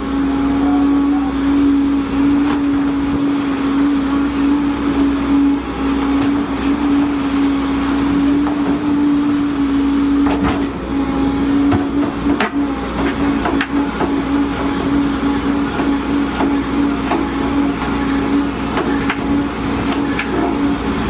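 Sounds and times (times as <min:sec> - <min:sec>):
excavator engine droning: 0:00.0 - 0:21.0.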